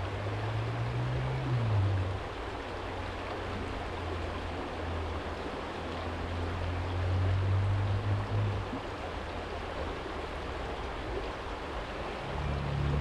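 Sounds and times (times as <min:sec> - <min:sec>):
distant traffic hum: 0:00.0 - 0:13.0
stream flowing over stones: 0:00.0 - 0:13.0.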